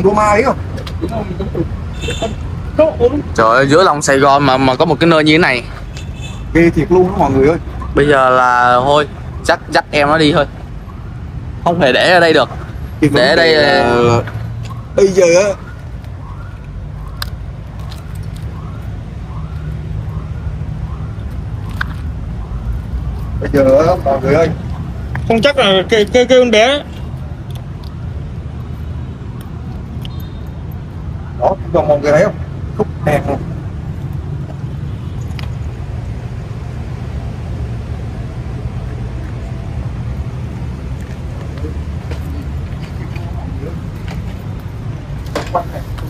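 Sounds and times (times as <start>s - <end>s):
low rumble of road traffic: 0.0s - 46.0s.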